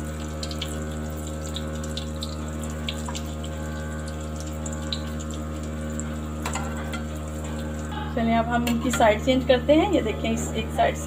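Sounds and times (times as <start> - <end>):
doughnuts sizzling in hot oil: 0.0 - 11.0
low hum: 0.0 - 11.0.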